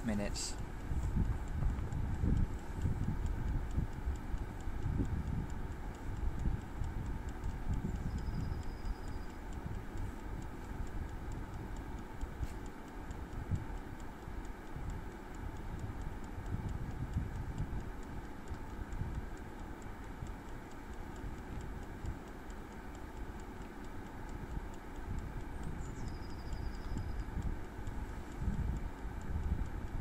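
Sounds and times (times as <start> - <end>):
dial timer ticking: 0.0 - 30.0.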